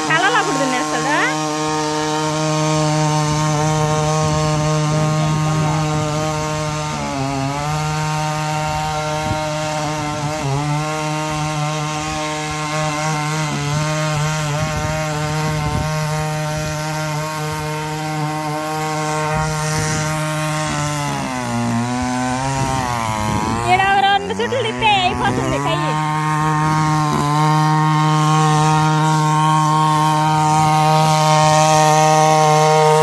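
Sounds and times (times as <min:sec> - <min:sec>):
small petrol engine tilling soil: 0:00.0 - 0:33.0.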